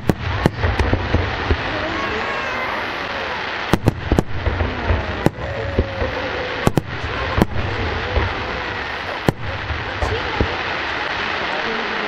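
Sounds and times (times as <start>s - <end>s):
fireworks bursting: 0.0s - 12.0s
low rumble and hiss: 0.0s - 12.0s.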